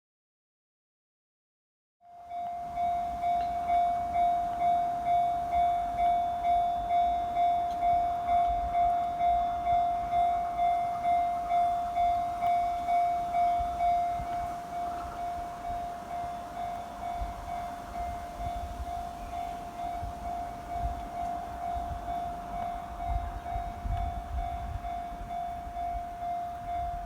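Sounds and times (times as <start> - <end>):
level-crossing alarm bell ringing: 2.1 - 27.0.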